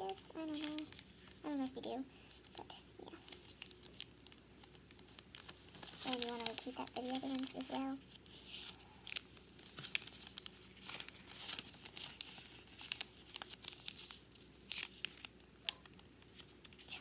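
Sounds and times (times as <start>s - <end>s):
paper folding and crinkling: 0.0s - 17.0s.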